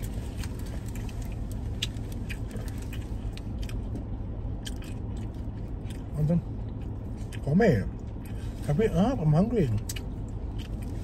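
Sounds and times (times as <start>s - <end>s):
chewing with mouth clicks: 0.0s - 8.7s, 9.7s - 11.0s
steady low hum: 0.0s - 11.0s.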